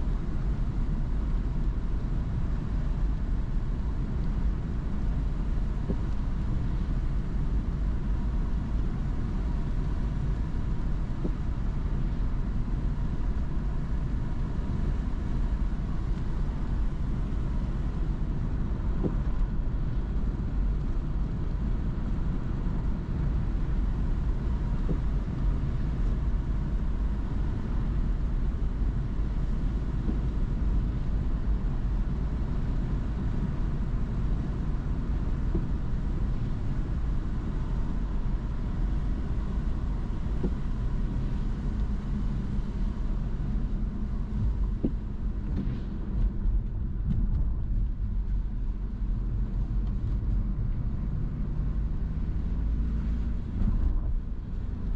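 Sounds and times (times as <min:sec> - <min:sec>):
car road and engine noise: 0:00.0 - 0:54.9.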